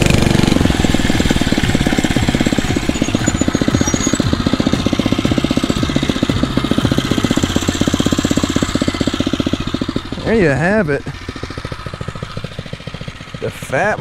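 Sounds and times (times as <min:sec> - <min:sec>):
small engine idling putter: 0:00.0 - 0:14.0.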